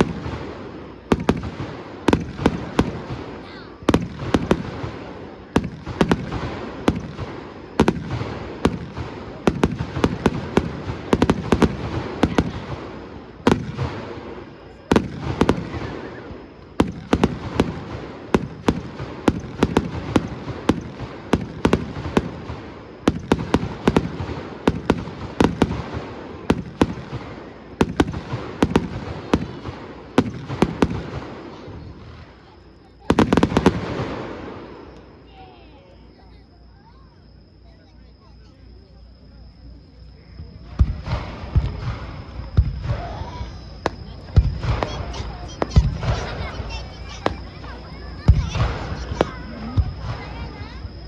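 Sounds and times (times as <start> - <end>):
firework crackling: 0.0 - 36.3, 40.6 - 51.0.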